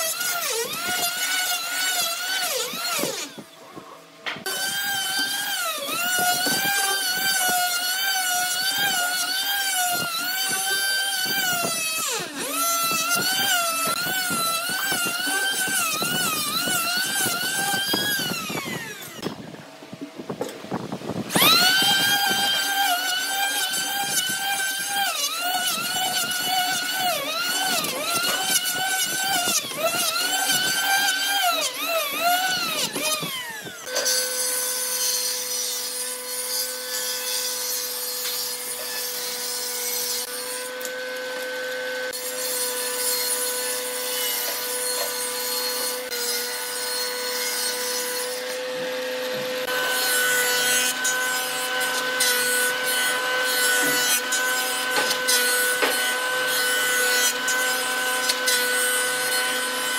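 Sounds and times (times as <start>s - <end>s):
jointer-planer humming: 0.0s - 20.1s, 21.2s - 59.9s
electric power planer shaving wood: 0.0s - 59.9s.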